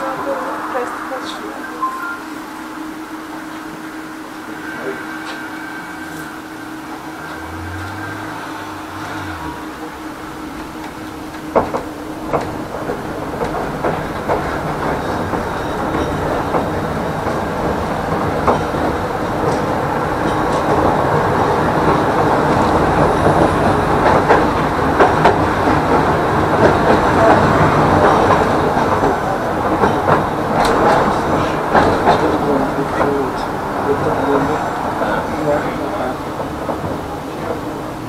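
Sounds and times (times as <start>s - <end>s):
tram wheels rumbling on rails: 0.0s - 38.0s.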